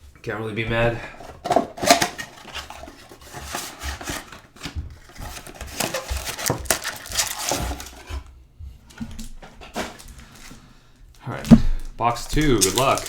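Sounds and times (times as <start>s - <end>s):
cards and packaging rustling: 0.8s - 13.0s.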